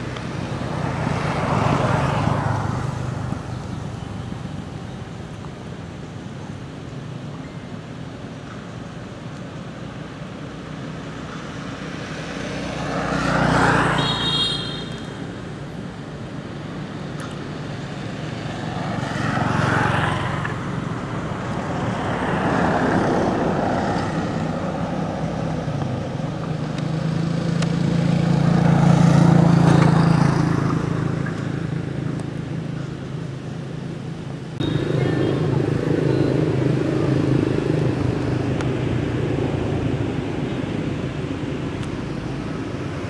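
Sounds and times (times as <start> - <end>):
low engine hum: 0.0 - 43.0
vehicles passing close by: 0.0 - 43.0.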